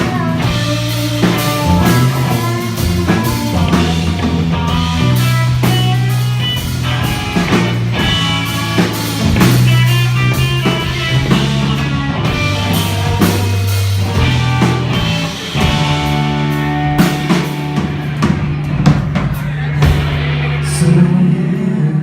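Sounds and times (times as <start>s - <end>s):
drum kit beat: 0.0s - 21.4s
bass line: 0.0s - 22.0s
electric guitar: 0.0s - 22.0s.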